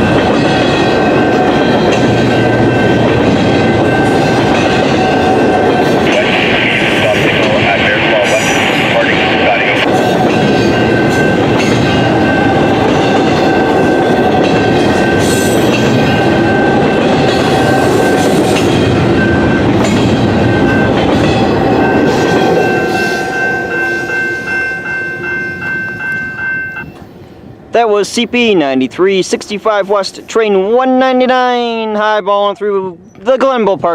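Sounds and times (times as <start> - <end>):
freight train wheels rumbling and clacking: 0.0 - 30.9.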